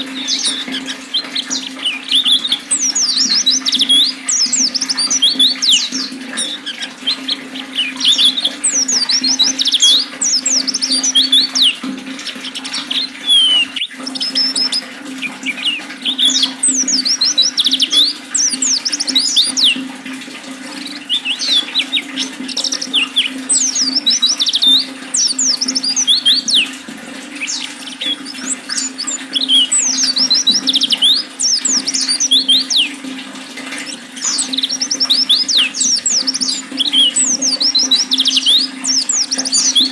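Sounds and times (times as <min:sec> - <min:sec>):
bird twittering: 0:00.0 - 0:39.9
flowing water: 0:00.0 - 0:39.9.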